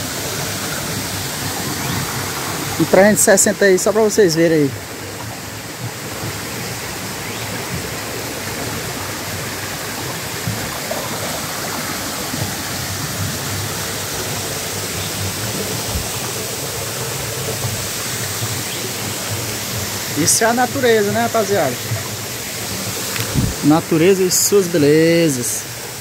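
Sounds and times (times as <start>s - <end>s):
creek water rushing over boulders: 0.0s - 26.0s.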